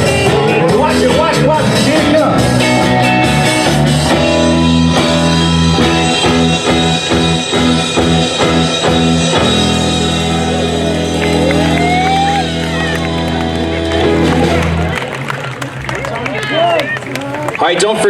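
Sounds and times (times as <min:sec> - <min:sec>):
drum kit: 0:00.0 - 0:15.1
rock band playing: 0:00.0 - 0:17.6.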